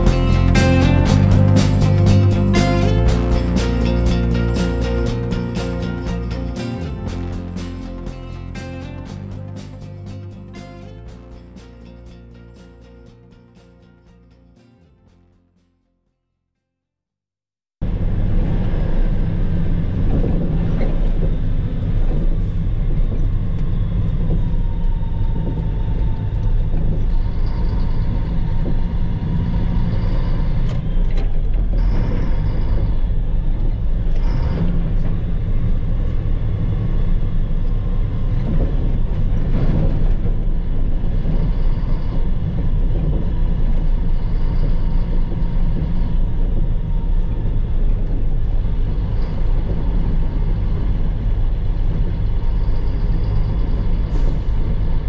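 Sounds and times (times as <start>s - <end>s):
road and cab noise: 0.0s - 15.2s, 17.8s - 55.0s
diesel truck engine running: 0.0s - 15.3s, 17.8s - 55.0s.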